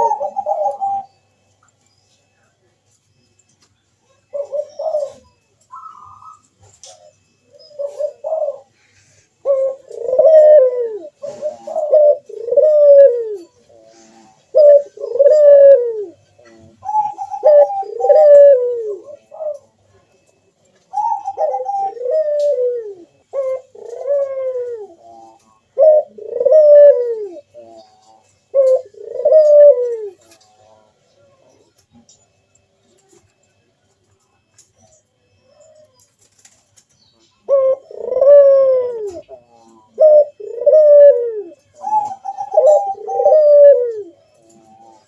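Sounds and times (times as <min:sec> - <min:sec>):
dove cooing: 0:00.0 - 0:01.5, 0:04.0 - 0:45.0.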